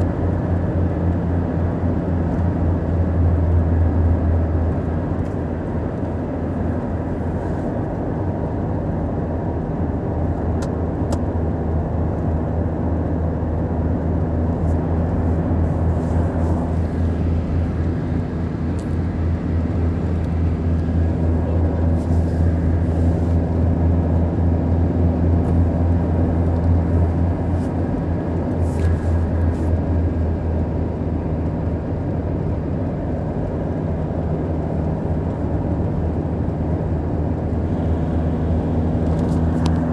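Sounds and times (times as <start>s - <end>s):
car engine drone: 0.0s - 39.9s
tyre and road noise: 0.0s - 39.9s.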